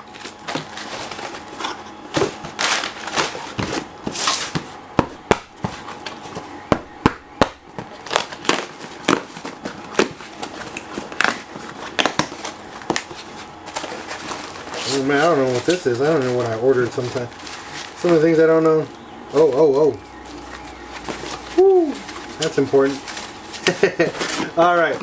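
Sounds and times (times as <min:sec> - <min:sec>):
packing paper rustling: 0:00.1 - 0:04.8, 0:07.7 - 0:25.0.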